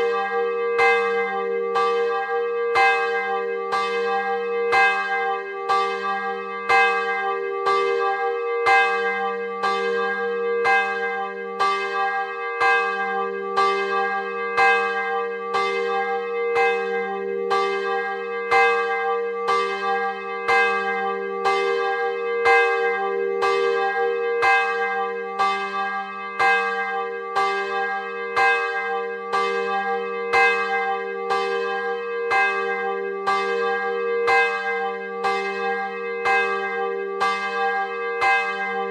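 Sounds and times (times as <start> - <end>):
large church bell ringing: 0.0 - 38.9.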